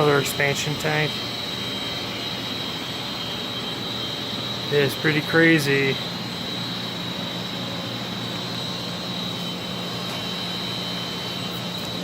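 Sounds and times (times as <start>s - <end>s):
low machinery hum: 0.0s - 12.0s
thin high whine: 0.0s - 12.0s.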